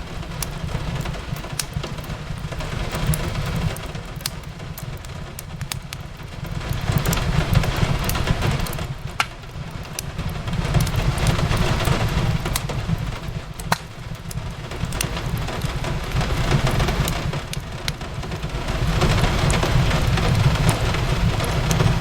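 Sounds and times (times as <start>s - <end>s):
rain on a window: 0.0s - 22.0s
wood fire crackling: 0.0s - 22.0s.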